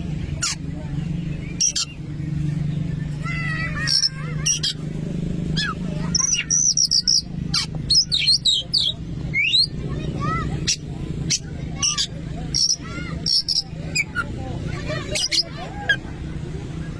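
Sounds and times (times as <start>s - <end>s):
magpie-robin singing: 0.1s - 4.9s, 5.5s - 16.0s.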